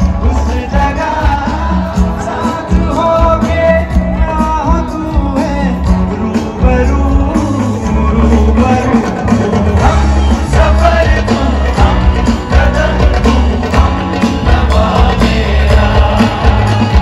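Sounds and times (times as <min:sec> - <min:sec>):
singer with live band: 0:00.0 - 0:17.0.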